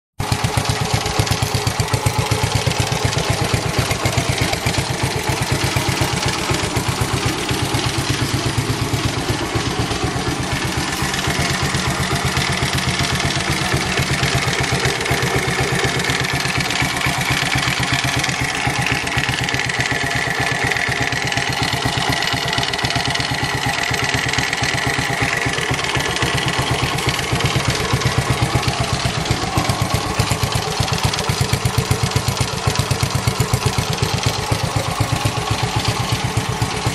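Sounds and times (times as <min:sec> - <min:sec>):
car engine knocking: 0:00.2 - 0:36.9.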